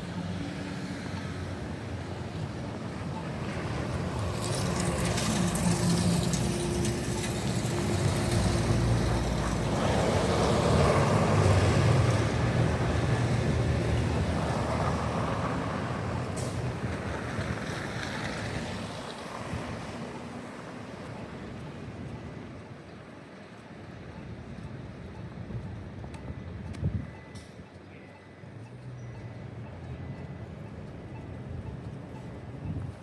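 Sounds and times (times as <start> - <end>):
traffic passing: 0.0 - 33.0.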